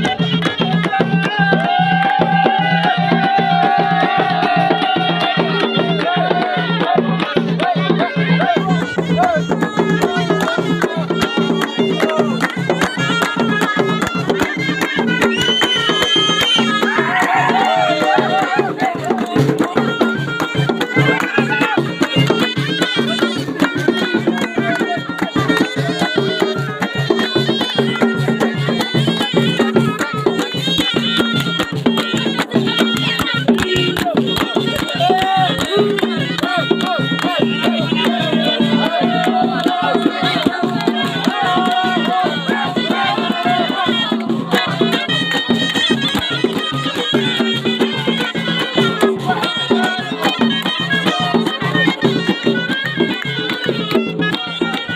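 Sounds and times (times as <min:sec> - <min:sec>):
fast drum beat: 0:00.0 - 0:52.4
shawm playing folk melody: 0:00.0 - 0:54.9.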